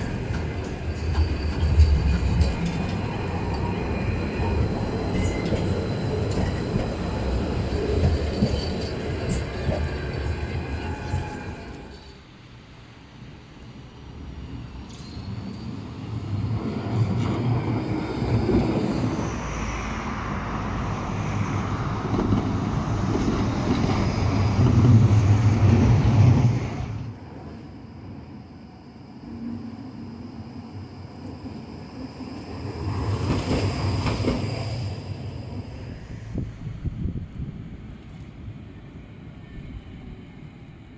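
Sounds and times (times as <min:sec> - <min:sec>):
tram rumbling on track: 0:00.0 - 0:40.9.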